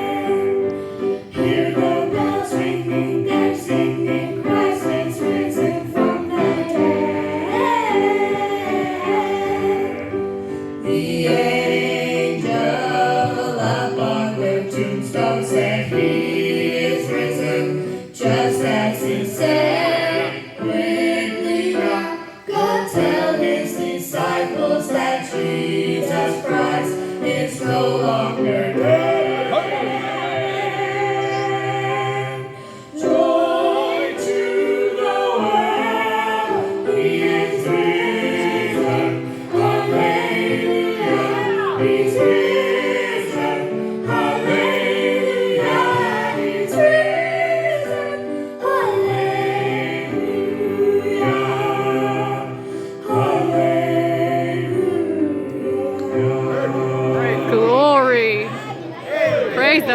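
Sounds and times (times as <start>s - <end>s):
group singing gospel: 0.0s - 59.9s.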